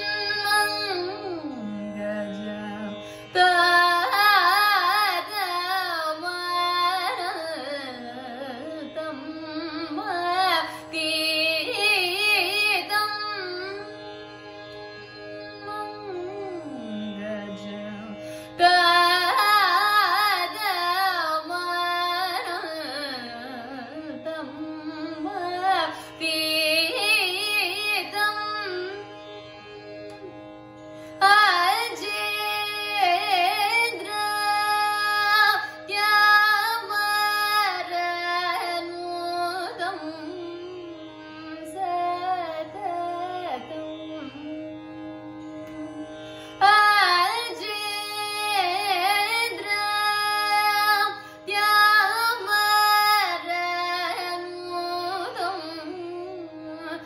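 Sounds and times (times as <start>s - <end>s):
woman singing ornamented phrases: 0.0s - 13.8s, 15.7s - 29.0s, 31.2s - 40.8s, 46.6s - 57.0s.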